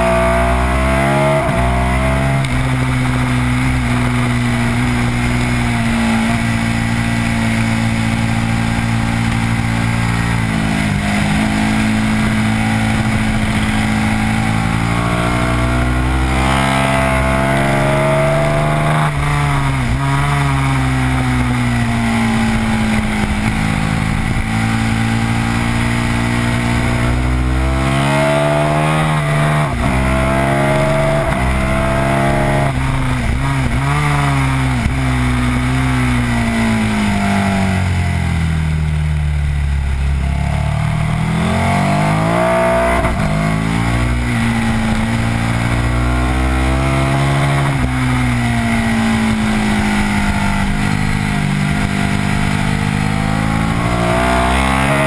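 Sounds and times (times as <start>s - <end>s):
wind noise: 0.0s - 38.5s, 39.6s - 55.0s
motorcycle engine revving: 0.0s - 55.0s.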